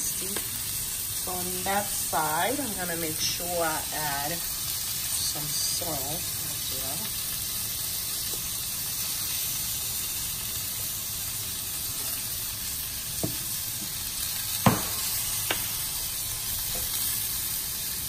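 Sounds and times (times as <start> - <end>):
steak sizzling in a pan: 0.0 - 18.0.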